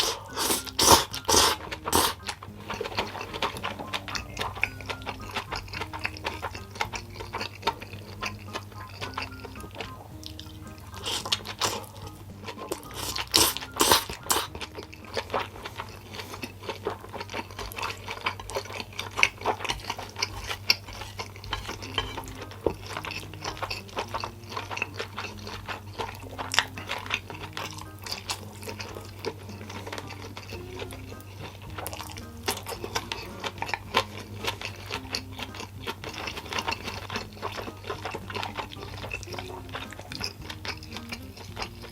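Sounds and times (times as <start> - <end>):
close chewing and crunching: 0.0 - 41.9
soft background music: 0.0 - 41.9.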